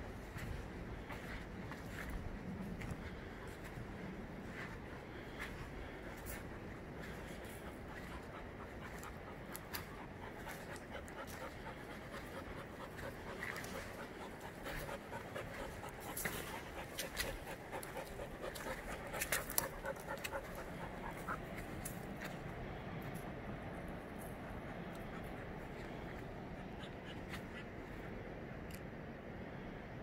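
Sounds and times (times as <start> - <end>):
rapid panting: 0.2 - 28.4.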